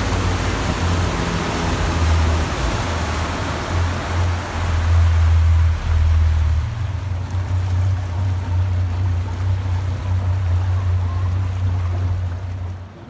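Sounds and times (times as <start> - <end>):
hiss of churned water: 0.0 - 12.4
motorboat engine drone: 0.0 - 13.0.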